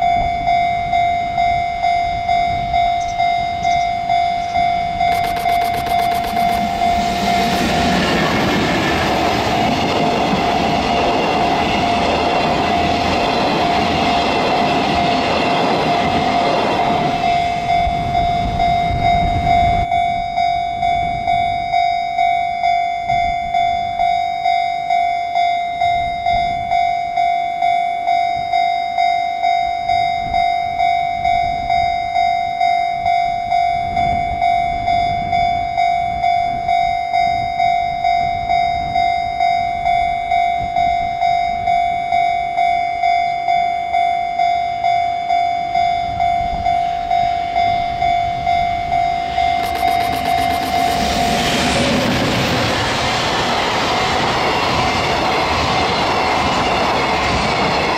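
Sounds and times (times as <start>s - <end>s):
freight train approaching: 0.0s - 57.9s
level-crossing alarm ringing: 0.0s - 57.9s.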